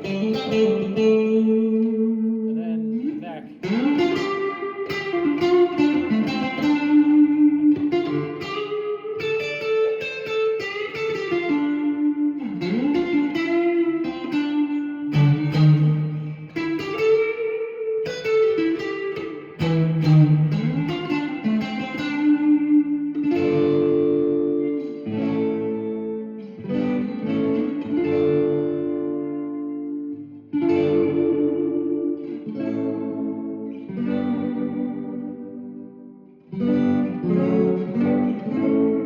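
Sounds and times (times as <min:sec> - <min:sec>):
electric guitar lead line: 0:00.0 - 0:39.0.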